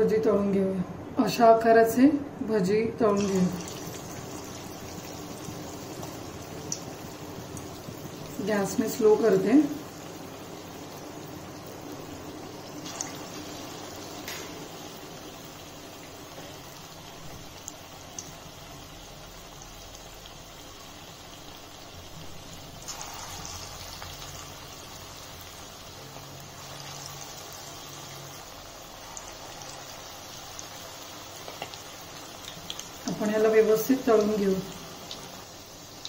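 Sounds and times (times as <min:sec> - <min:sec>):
fritters sizzling in hot oil: 0:03.2 - 0:36.0.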